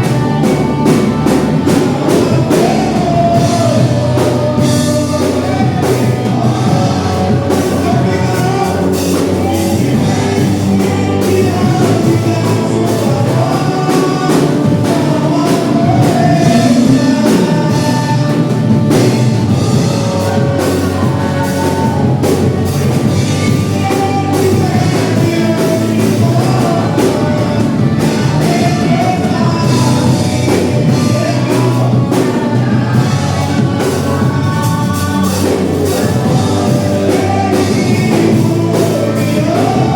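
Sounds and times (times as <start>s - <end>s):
live worship band music: 0.0s - 39.9s
person singing: 0.0s - 39.9s.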